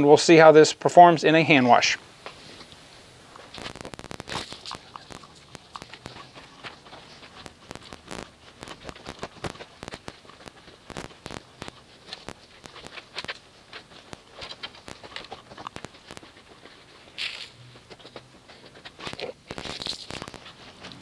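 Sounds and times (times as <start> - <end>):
rustling and patter of wet mitts: 1.8 - 21.0.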